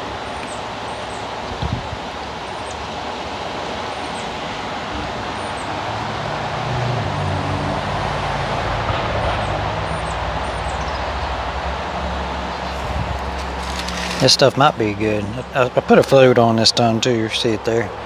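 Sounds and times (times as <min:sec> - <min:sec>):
water rushing: 0:00.0 - 0:08.9, 0:09.6 - 0:18.0.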